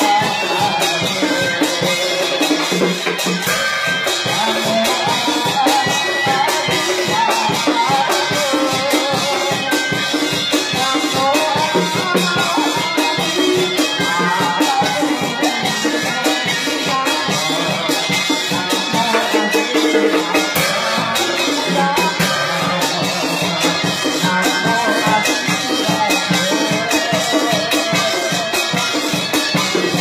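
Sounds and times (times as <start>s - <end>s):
clattering percussion: 0.0s - 30.0s
drum: 0.0s - 30.0s.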